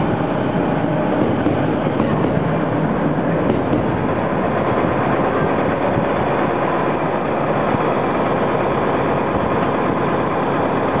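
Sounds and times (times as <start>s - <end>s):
electric train pulling away: 0.0s - 11.0s.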